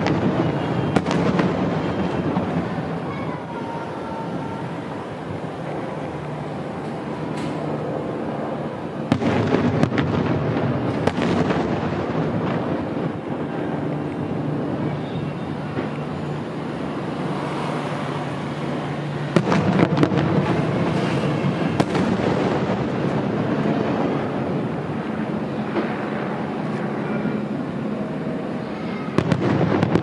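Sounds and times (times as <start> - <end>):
fireworks bursting: 0.0 - 27.8, 29.1 - 30.0
continuous rumble and crackle: 0.0 - 30.0.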